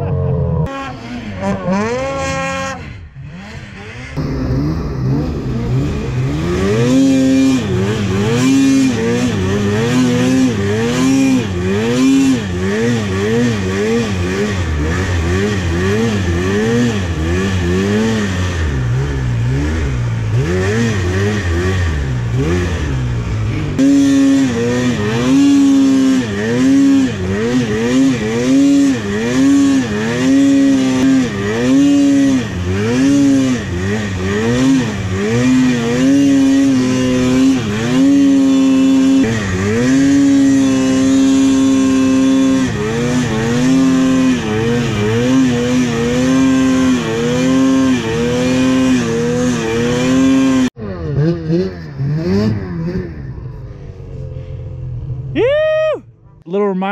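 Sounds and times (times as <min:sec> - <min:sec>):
snowmobile engine revving: 0:00.0 - 0:54.5, 0:55.2 - 0:56.9.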